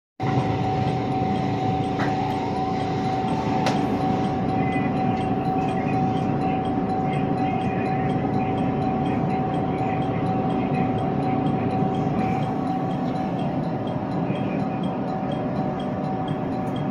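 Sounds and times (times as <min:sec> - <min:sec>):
constant high tone: 0:00.2 - 0:16.9
train wheels rumbling on rail: 0:00.2 - 0:16.9.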